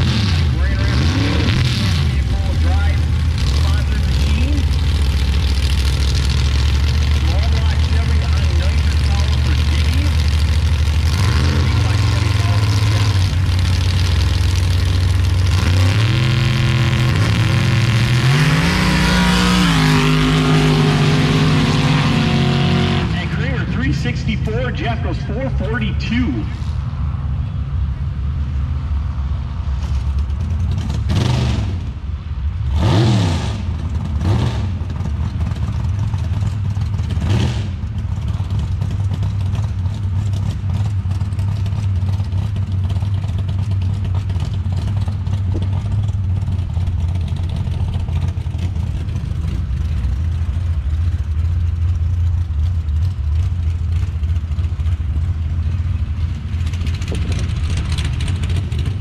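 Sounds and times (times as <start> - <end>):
racing engines revving: 0.0 - 27.6, 28.8 - 32.0, 32.6 - 59.0
low engine drone: 0.0 - 59.0.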